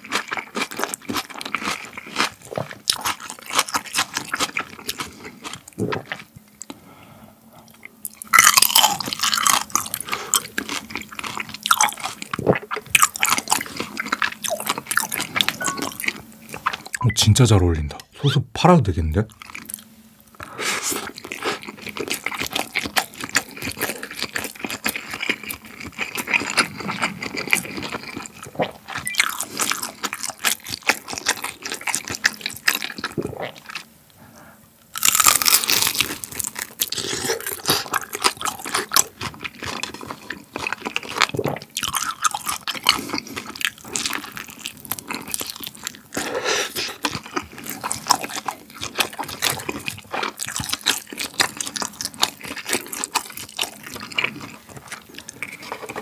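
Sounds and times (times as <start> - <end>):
wet crunchy chewing: 0.0 - 6.8, 7.7 - 17.1, 19.3 - 33.9, 35.0 - 56.0.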